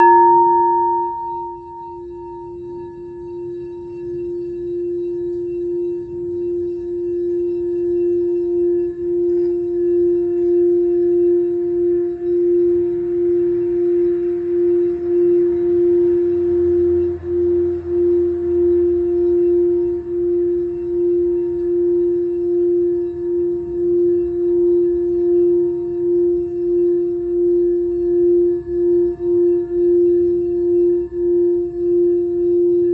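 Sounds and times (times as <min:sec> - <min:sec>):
singing bowl ringing: 0:00.0 - 0:32.9.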